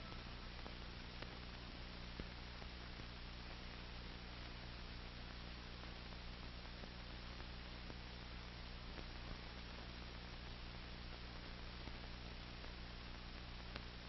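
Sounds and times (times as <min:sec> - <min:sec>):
low electrical hum with hiss: 0:00.0 - 0:14.0.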